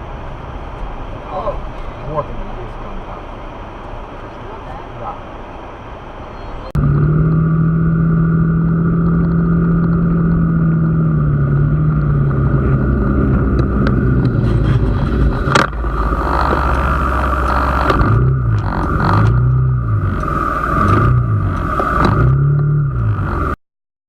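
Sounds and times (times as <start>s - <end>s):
vehicle engine with road noise: 0.0s - 23.6s.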